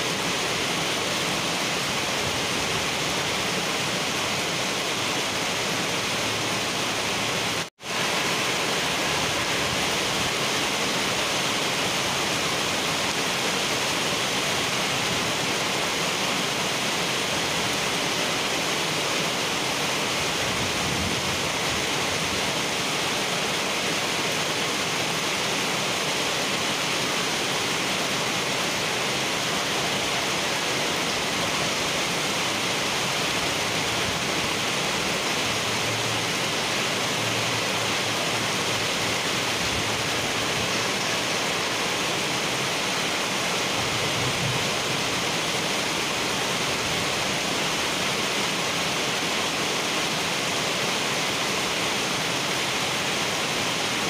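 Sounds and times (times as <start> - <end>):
heavy rain on wet pavement: 0.0 - 54.0
rain splashing into water: 0.0 - 54.0.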